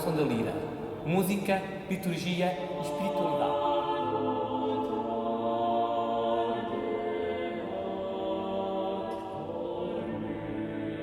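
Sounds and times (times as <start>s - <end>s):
choir singing unaccompanied: 2.0s - 11.0s.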